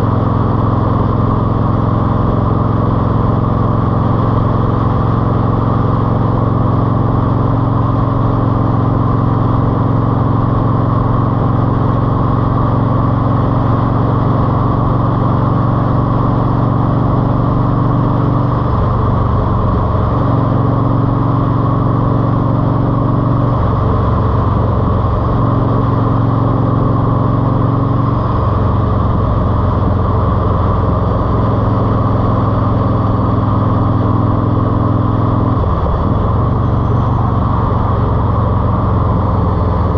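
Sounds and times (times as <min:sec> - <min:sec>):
loud car exhaust note: 0:00.0 - 0:39.9.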